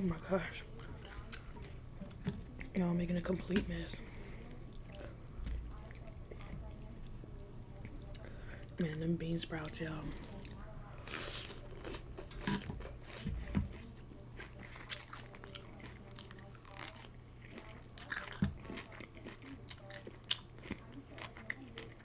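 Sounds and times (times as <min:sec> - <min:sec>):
chewing and crunching: 0:00.2 - 0:09.0, 0:09.6 - 0:22.0.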